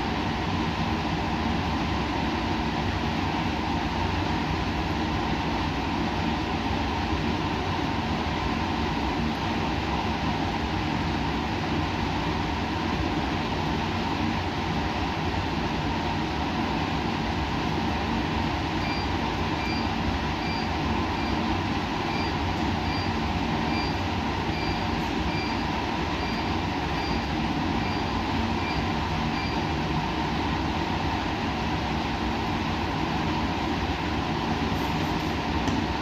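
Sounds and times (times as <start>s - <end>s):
laboratory equipment rumble and hiss: 0.0s - 36.0s.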